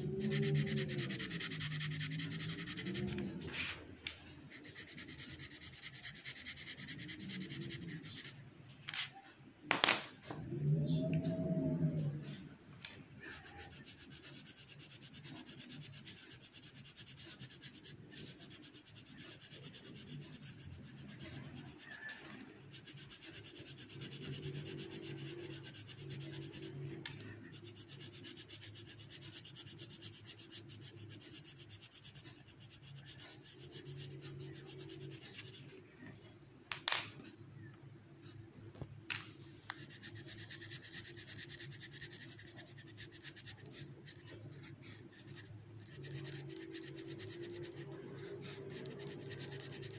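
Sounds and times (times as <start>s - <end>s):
pencil scratching on paper: 0.0s - 9.2s, 13.2s - 36.1s, 39.7s - 49.9s.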